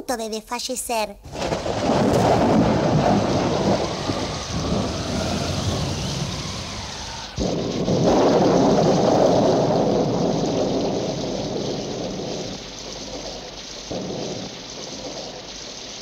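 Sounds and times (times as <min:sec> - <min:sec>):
steady rain: 0:01.2 - 0:16.0
loud thunderclap: 0:01.3 - 0:16.0
rumbling thunder: 0:01.3 - 0:16.0.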